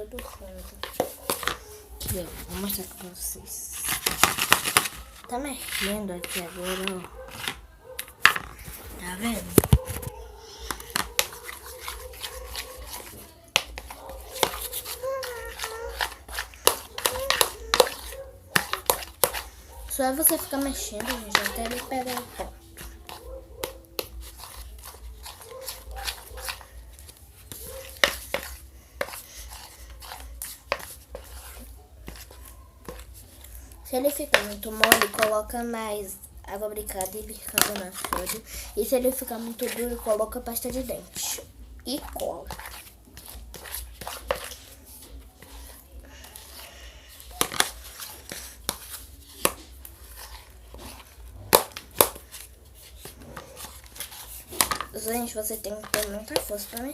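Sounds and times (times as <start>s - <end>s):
utensil stirring sticky slime: 0.0s - 56.9s.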